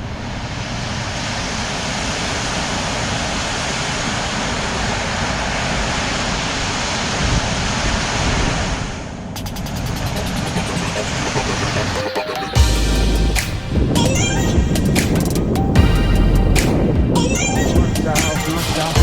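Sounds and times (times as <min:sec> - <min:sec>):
wind rushing on microphone: 0:00.0 - 0:11.9, 0:13.5 - 0:19.0.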